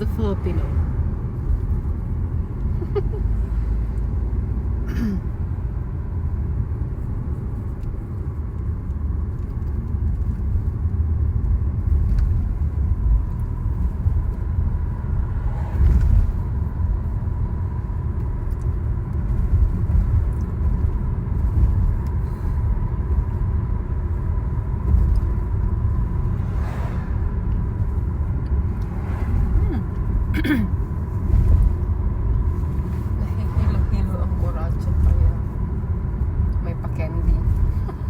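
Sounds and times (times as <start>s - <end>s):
road and engine rumble: 0.0s - 38.0s.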